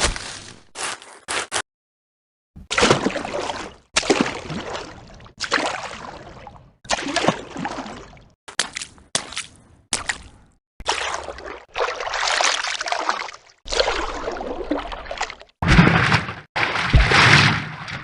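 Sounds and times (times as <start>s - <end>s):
water sloshing and splashing: 2.6s - 18.0s.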